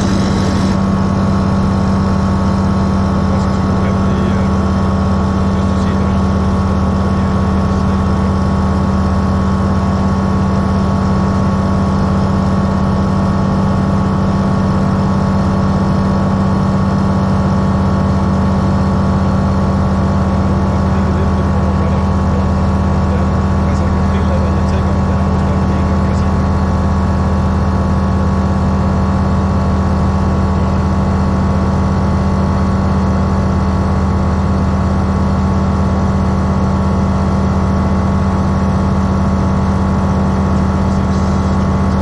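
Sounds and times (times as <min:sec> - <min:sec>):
light aircraft engine drone in cabin: 0:00.0 - 0:42.0.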